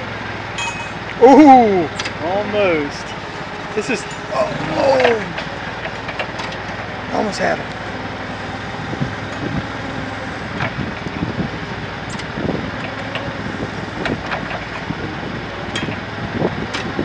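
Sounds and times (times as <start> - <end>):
forklift engine running: 0.0 - 17.0.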